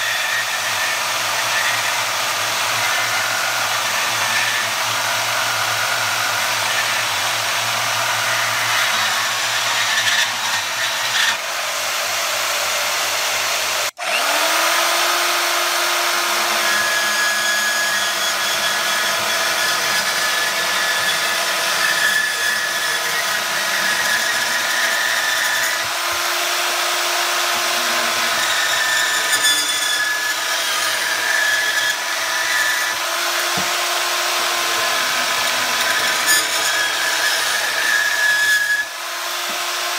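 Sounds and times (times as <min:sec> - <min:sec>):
band saw cutting metal: 0:00.0 - 0:39.9.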